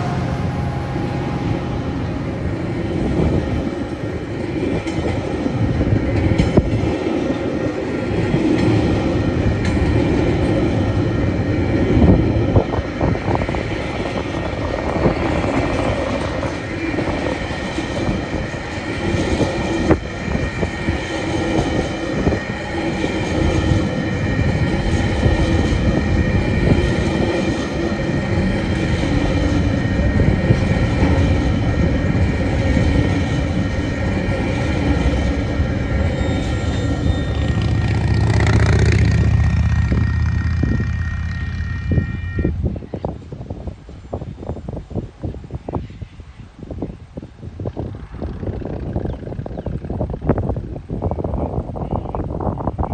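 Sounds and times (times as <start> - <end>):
freight train wheels rumbling: 0.0 - 52.9.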